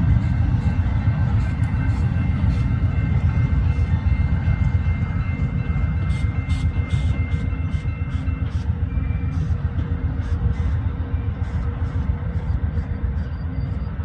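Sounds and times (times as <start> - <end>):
train passing with low rumble: 0.0 - 14.0.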